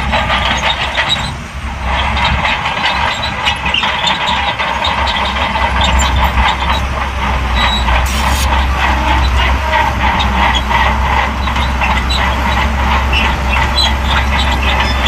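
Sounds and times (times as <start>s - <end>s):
crawler tracks clanking: 0.0s - 15.0s
diesel engine droning: 0.0s - 15.0s.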